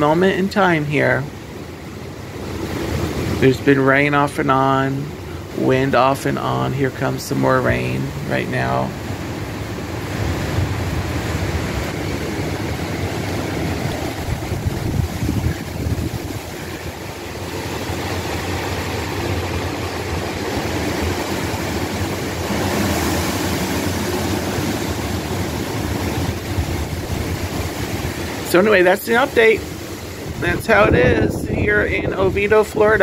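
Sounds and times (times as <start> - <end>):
rain hissing: 0.0 - 33.0
wind rumbling: 0.0 - 33.0.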